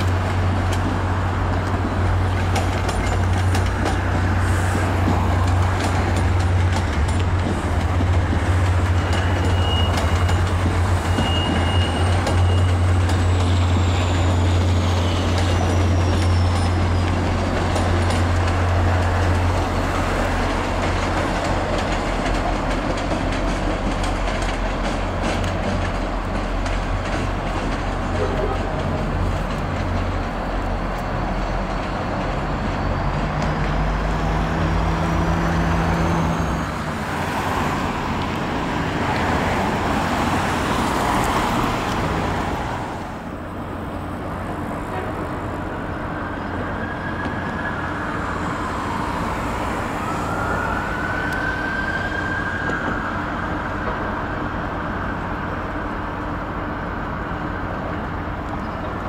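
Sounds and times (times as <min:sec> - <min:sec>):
diesel locomotive engine drone: 0:00.0 - 0:59.0
train wheels rumbling on rails: 0:00.0 - 0:59.0.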